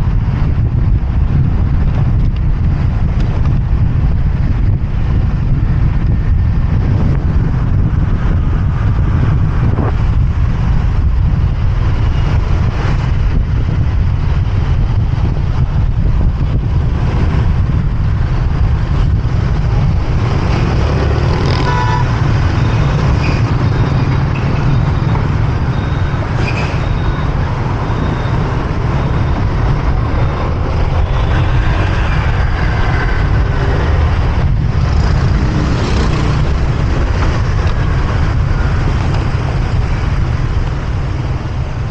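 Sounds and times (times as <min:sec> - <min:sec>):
motorbike engine rumble: 0:00.0 - 0:41.9
traffic: 0:00.0 - 0:41.9
wind on microphone: 0:00.0 - 0:41.9.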